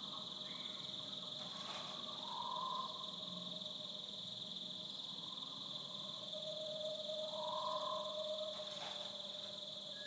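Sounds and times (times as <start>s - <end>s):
high insect chorus: 0.0s - 10.0s.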